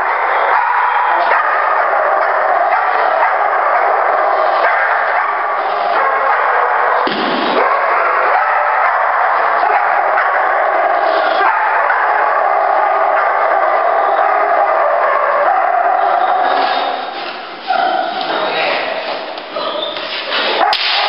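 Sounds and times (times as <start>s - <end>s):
dog barking aggressively: 0.0s - 18.2s.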